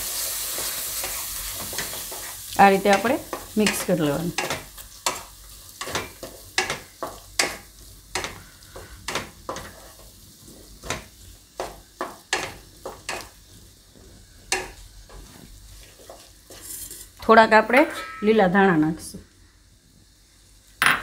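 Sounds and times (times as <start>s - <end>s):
faint sizzle: 0.0s - 20.8s.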